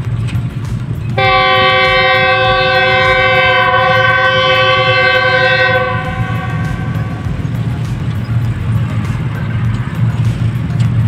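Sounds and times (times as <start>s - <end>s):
low rumble: 0.0s - 11.0s
locomotive air horn chord: 1.1s - 10.2s.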